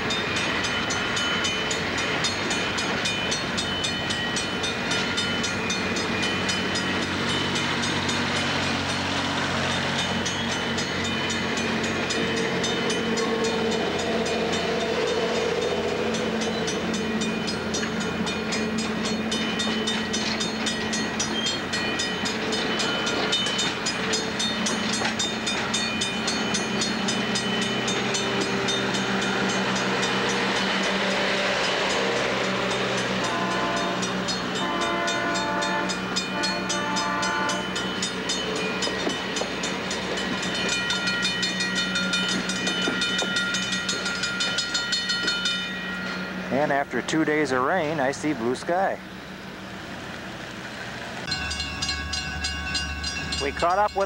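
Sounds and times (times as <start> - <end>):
crossing bell ringing: 0.0 - 49.4, 51.2 - 54.0
train wheels rumbling on rail: 0.0 - 54.0.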